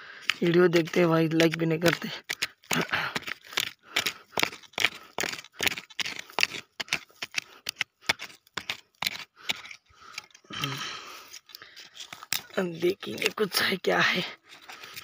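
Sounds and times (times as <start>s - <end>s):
stick scraping dry soil: 0.0s - 15.0s.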